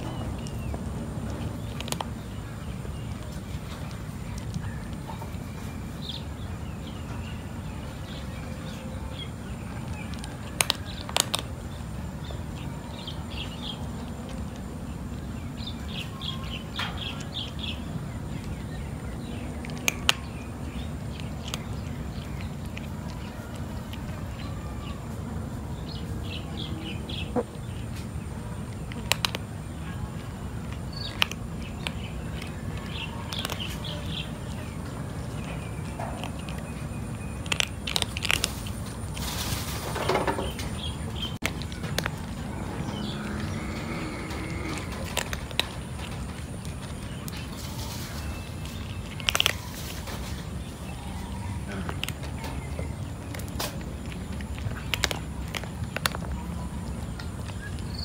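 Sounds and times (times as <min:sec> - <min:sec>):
birds chirping: 0:00.0 - 0:58.0
cat crunching dry kibble: 0:00.0 - 0:58.0
steady low rumble: 0:00.0 - 0:58.0.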